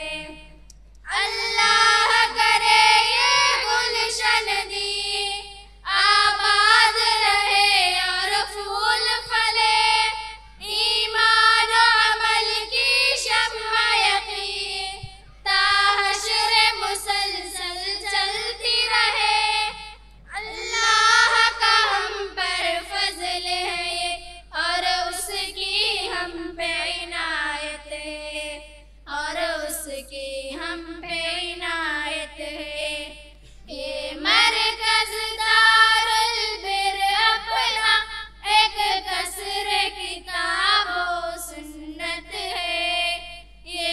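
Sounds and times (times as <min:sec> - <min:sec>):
girls singing unaccompanied: 0:00.0 - 0:43.9.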